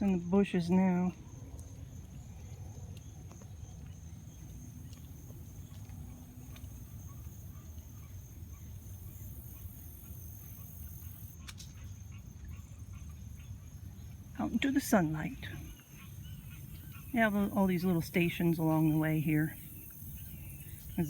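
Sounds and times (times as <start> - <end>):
high insect drone: 1.1 - 21.0.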